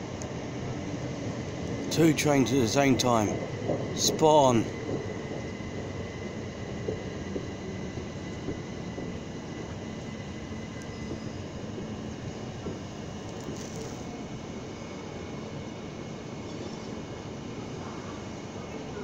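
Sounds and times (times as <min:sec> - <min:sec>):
electric train humming: 0:00.0 - 0:19.0.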